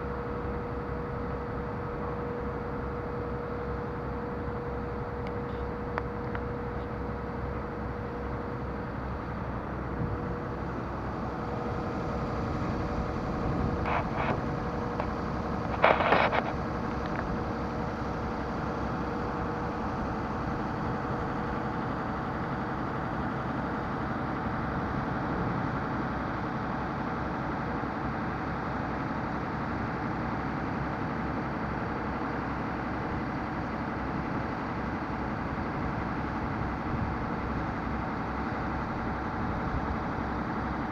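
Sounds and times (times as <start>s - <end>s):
ferry engine hum: 0.0s - 40.9s.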